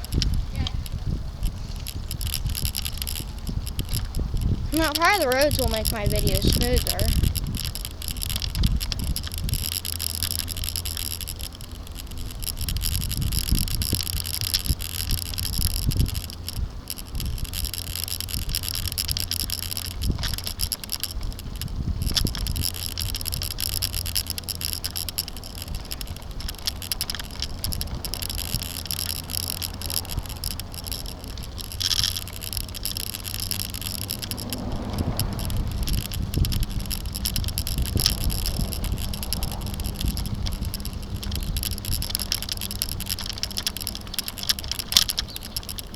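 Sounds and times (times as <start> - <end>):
bike rattling on bumpy road: 0.0 - 45.9
tyre and wind hiss: 0.0 - 45.9.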